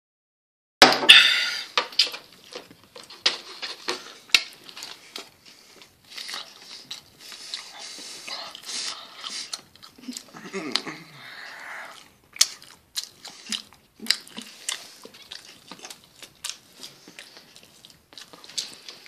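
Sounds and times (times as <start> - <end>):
person crunching and chewing food: 1.6 - 19.0.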